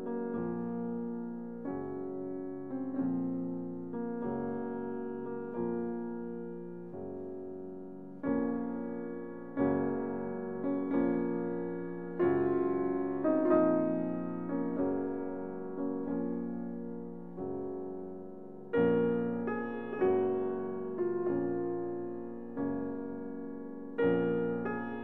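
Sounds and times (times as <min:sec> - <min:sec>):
gentle piano chords: 0:00.0 - 0:25.0.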